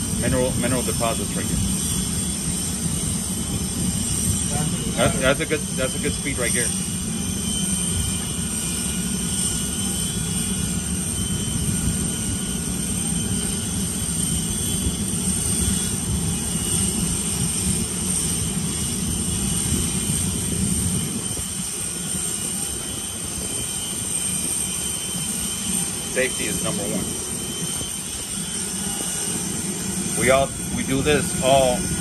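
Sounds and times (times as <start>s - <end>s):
faint high whine: 0.0s - 32.0s
machinery drone: 0.0s - 32.0s.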